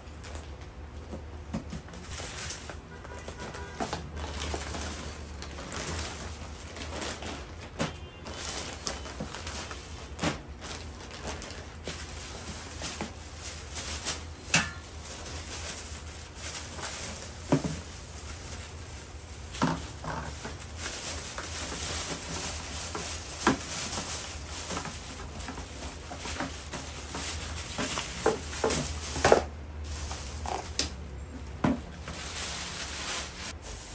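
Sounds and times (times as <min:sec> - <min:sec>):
plastic bag rustling: 0:00.0 - 0:33.9.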